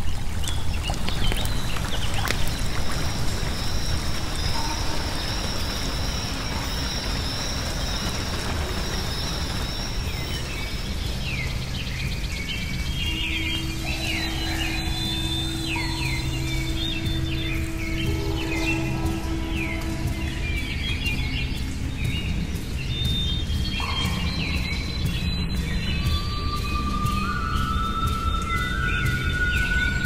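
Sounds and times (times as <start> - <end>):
rushing water: 0.0 - 25.4
birds chirping: 0.0 - 30.0
thin high drone: 1.6 - 30.0.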